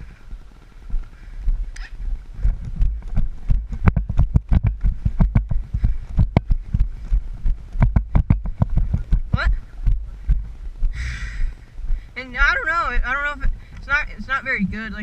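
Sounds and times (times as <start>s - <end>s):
footsteps on woodland ground: 0.0s - 14.1s.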